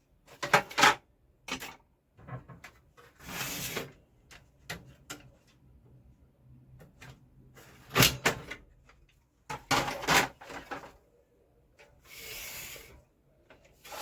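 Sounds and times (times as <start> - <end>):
plastic sliding and scraping: 1.6 - 5.6, 6.8 - 14.0.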